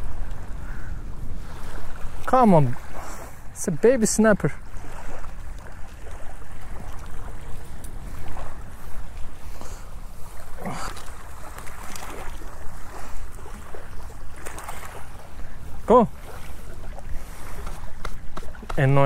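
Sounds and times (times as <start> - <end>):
small waves lapping: 0.0 - 19.0.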